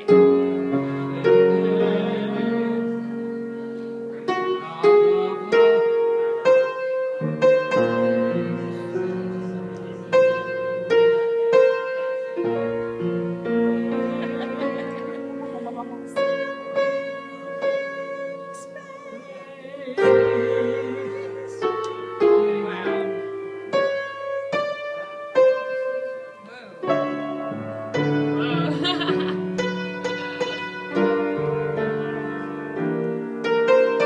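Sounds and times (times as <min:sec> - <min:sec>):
keyboard playing slow chords: 0:00.0 - 0:34.0.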